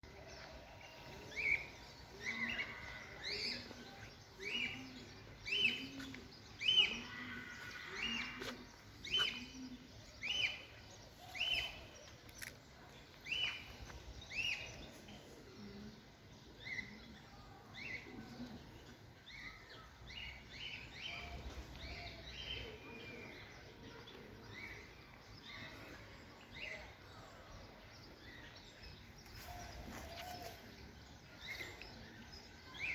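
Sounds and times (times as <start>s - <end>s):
soft outdoor background: 0.0s - 32.9s
songbirds chirping: 0.0s - 32.9s.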